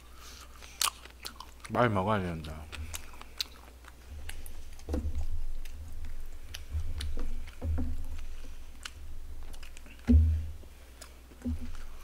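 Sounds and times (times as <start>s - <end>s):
close chewing: 0.0s - 12.0s.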